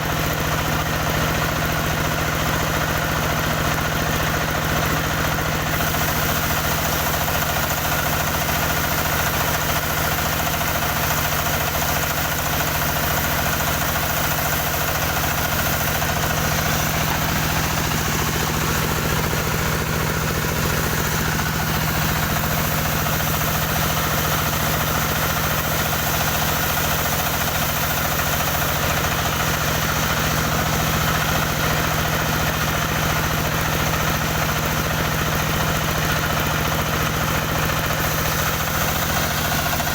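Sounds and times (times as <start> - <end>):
sawing machine engine running: 0.0 - 39.9.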